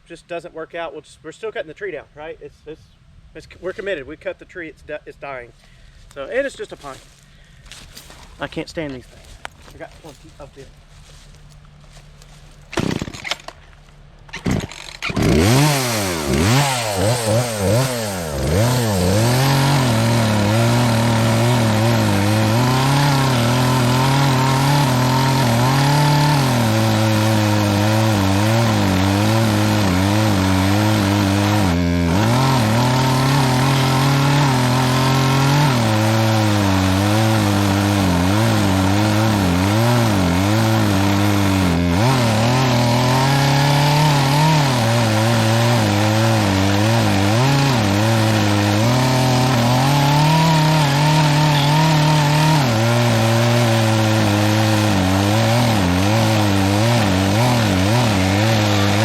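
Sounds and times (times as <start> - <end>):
chainsaw cutting wood: 7.7 - 59.0.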